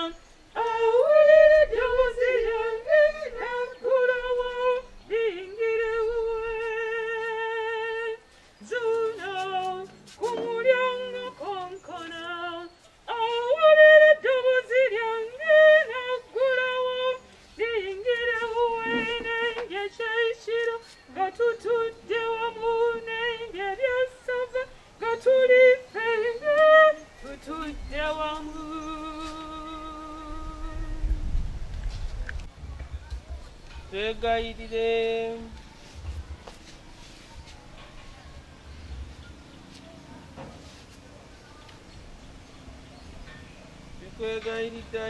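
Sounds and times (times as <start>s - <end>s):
woman singing a slow hymn: 0.0s - 31.6s, 33.9s - 37.5s, 43.9s - 45.0s.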